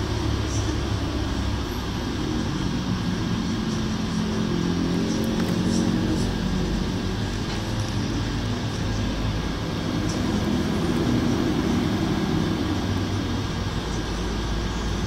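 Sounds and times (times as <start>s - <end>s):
low rumble of road traffic: 0.0s - 15.0s
vehicle engine hum: 0.0s - 15.0s.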